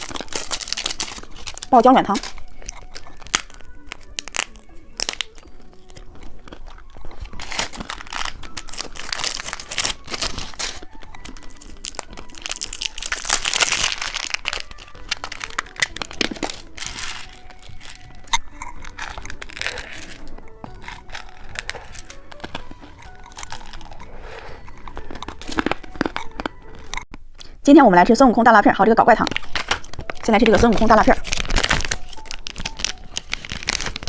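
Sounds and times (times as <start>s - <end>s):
plastic wrapper crinkling and tearing: 0.0s - 27.1s, 29.2s - 34.0s.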